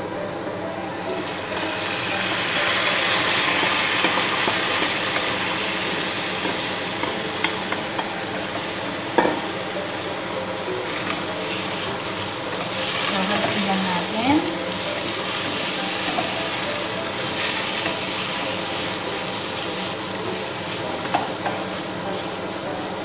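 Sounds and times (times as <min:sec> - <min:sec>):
rice sizzling in hot oil: 0:00.8 - 0:23.0.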